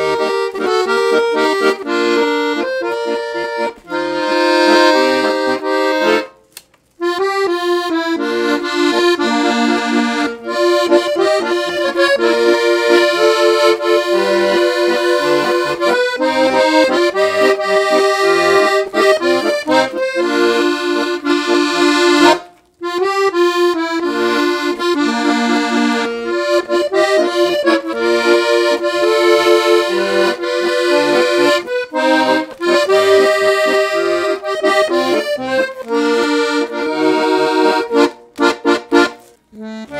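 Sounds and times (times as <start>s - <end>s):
accordion tune: 0.0s - 39.9s.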